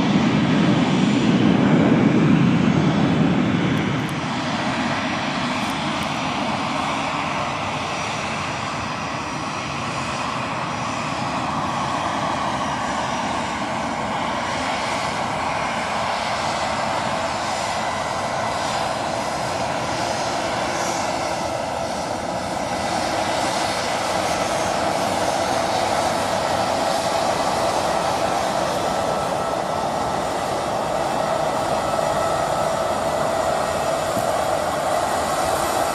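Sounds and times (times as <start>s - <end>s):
jet engines running: 0.0s - 35.9s.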